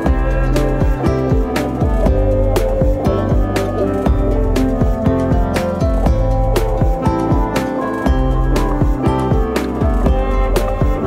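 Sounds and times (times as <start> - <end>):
instrumental music with plucked notes: 0.0 - 11.0.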